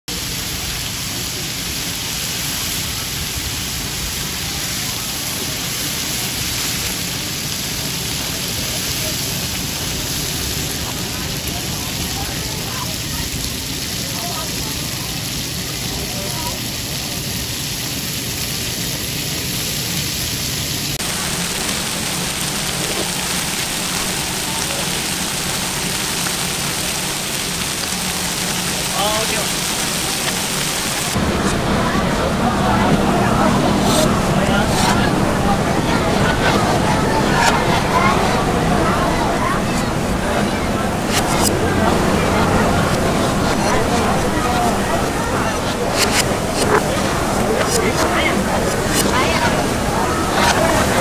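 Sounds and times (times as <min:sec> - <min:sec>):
reversed sizzling on griddle: 0:00.1 - 0:31.6, 0:33.5 - 0:51.0.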